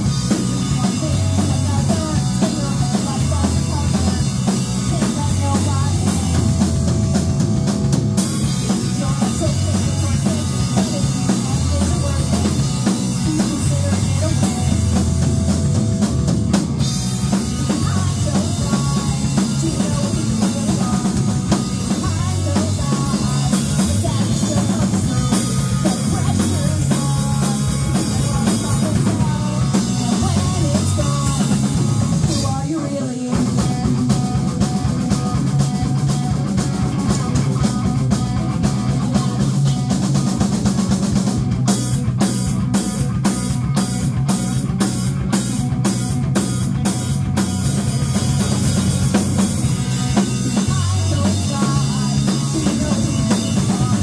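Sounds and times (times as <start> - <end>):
person singing: 0.0 - 7.2, 8.5 - 15.6, 17.3 - 41.0, 47.8 - 54.0
live rock band playing: 0.0 - 54.0.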